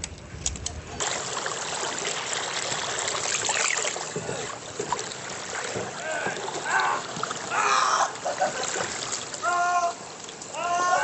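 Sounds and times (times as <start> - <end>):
water rushing and splashing: 0.8 - 11.0.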